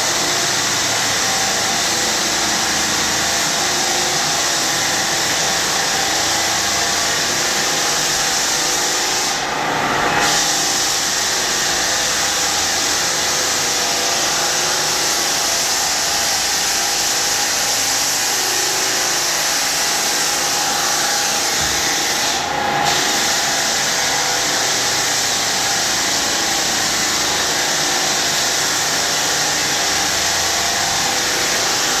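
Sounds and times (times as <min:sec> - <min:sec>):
dust-extraction vacuum: 0:00.0 - 0:32.0
floor sander running on hardwood: 0:00.0 - 0:32.0.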